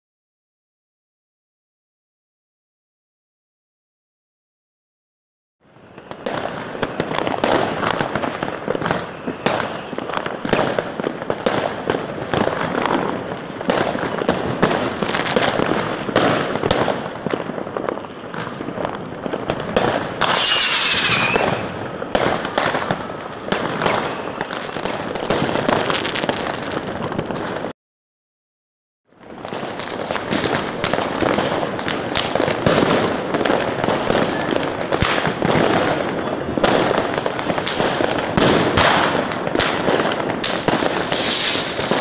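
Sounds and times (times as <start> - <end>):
crackling firecrackers: 5.6 - 27.8, 29.1 - 42.0
fireworks bangs: 5.8 - 27.7, 29.2 - 42.0
whistling firework: 5.8 - 27.7, 29.2 - 42.0.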